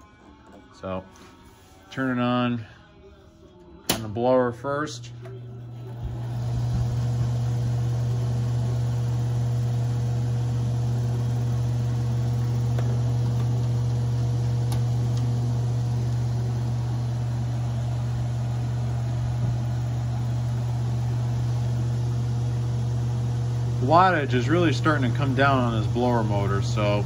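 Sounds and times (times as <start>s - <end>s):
air conditioner blower fan running: 5.0s - 27.0s.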